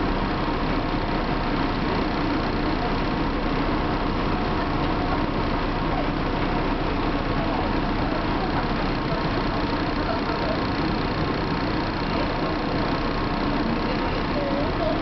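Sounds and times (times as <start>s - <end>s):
road traffic passing: 0.0s - 15.0s
streetcar interior hum: 0.0s - 15.0s.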